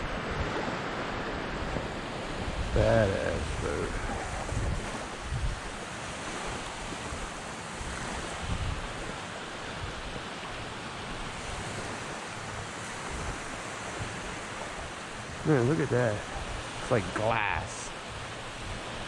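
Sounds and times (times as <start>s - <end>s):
small waves lapping on sand: 0.0s - 19.0s
wind rumbling on microphone: 0.0s - 19.0s.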